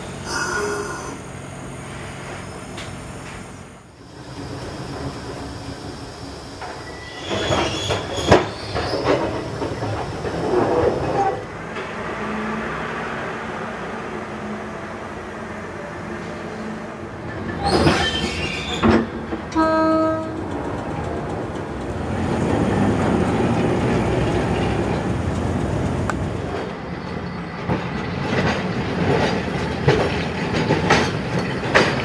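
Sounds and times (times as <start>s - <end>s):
tram wheels squealing and clattering: 0.0s - 13.2s, 15.8s - 32.0s.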